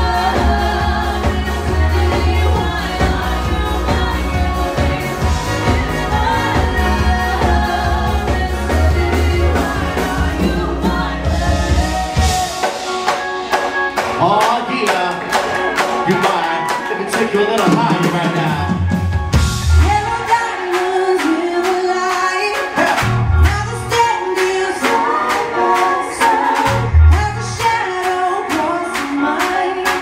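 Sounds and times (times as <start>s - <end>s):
bass guitar: 0.0s - 17.0s, 17.7s - 20.6s, 22.5s - 29.0s
live band playing: 0.0s - 30.0s.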